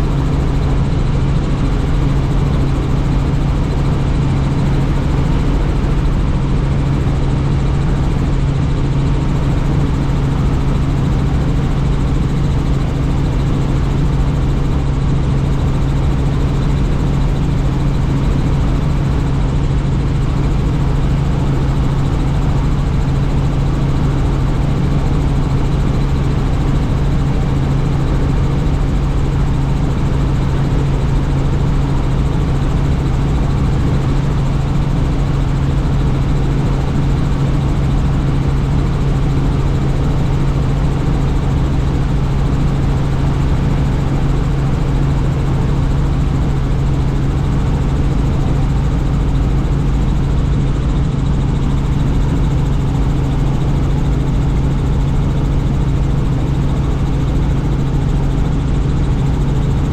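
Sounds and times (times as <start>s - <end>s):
helicopter rotor and turbine drone: 0.0s - 59.9s.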